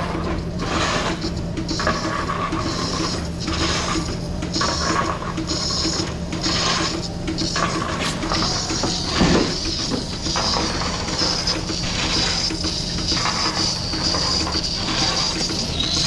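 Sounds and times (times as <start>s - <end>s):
machine hum: 0.0s - 16.0s
rasping air hisses: 0.6s - 16.0s.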